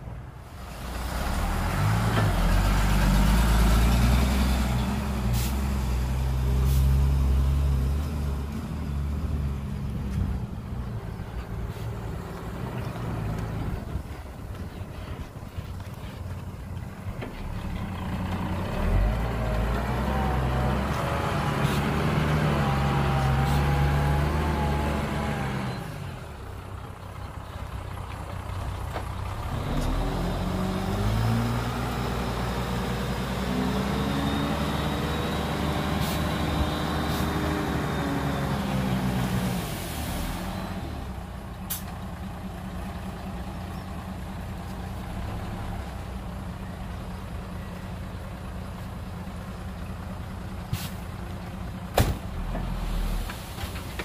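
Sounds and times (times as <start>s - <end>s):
diesel truck engine revving: 0.6s - 15.3s, 17.4s - 47.4s.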